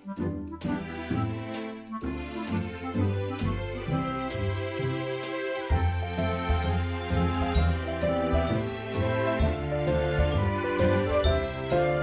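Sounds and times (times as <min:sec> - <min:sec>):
gentle background music: 0:00.0 - 0:12.0.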